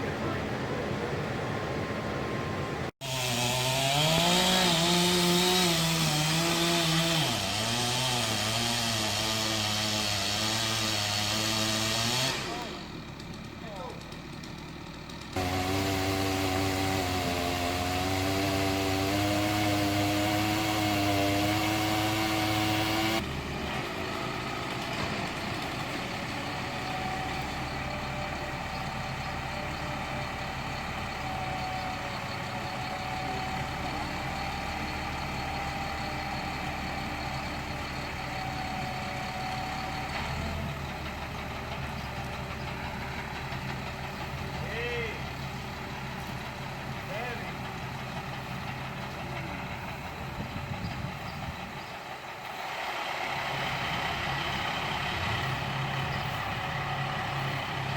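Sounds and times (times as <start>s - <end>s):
truck engine idling: 0.0s - 3.8s, 6.2s - 57.9s.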